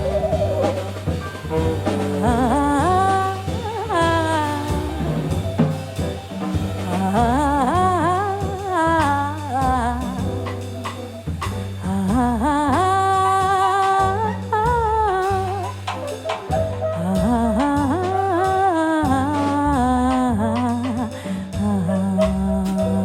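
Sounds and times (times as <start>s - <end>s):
double bass: 0.0s - 23.0s
drum kit: 0.0s - 23.0s
piano: 0.0s - 23.0s.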